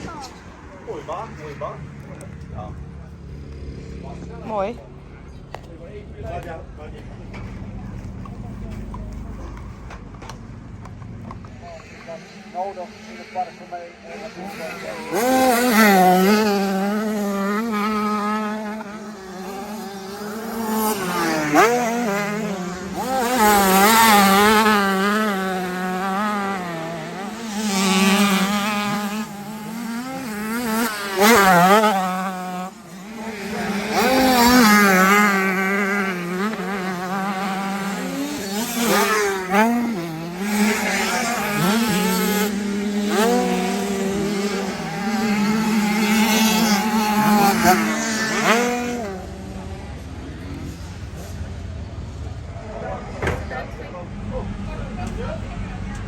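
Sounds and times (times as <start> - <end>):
motocross bike engine revving: 6.8 - 56.0.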